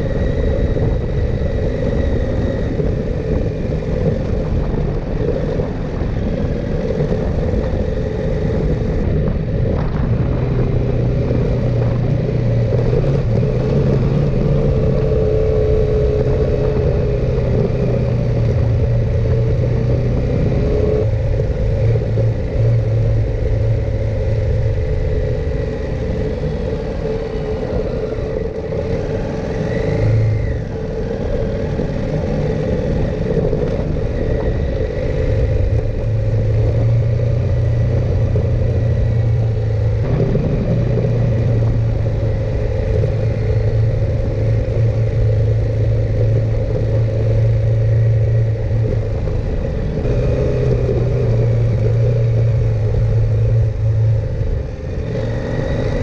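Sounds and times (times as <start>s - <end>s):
motorcycle engine running: 0.0s - 56.0s
wind rush: 0.0s - 56.0s.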